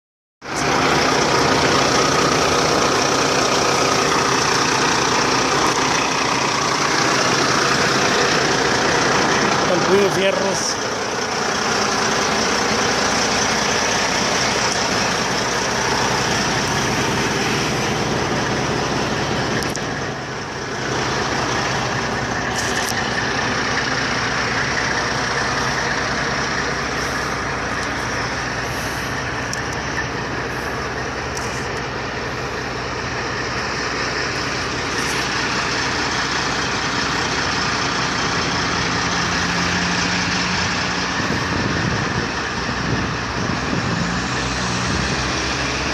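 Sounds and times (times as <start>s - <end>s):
diesel truck idling: 0.4s - 45.9s.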